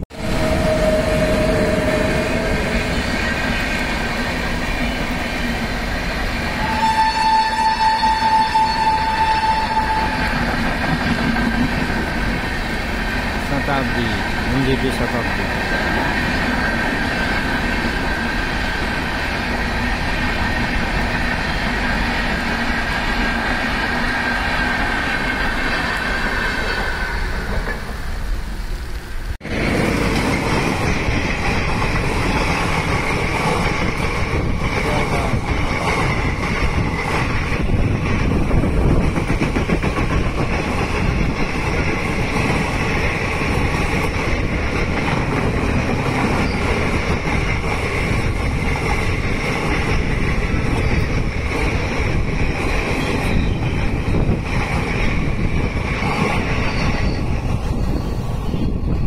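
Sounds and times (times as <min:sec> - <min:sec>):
diesel locomotive rushing past: 0:00.0 - 0:59.0
train wheels rushing on rails: 0:00.0 - 0:59.0.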